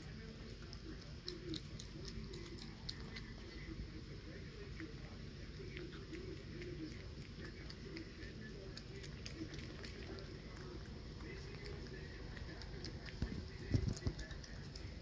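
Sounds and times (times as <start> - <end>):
animal chewing and smacking: 0.0 - 15.0.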